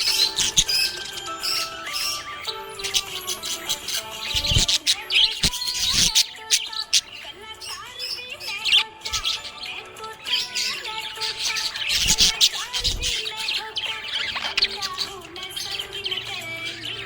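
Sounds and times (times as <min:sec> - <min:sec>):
budgerigar chirping and warbling: 0:00.0 - 0:17.0.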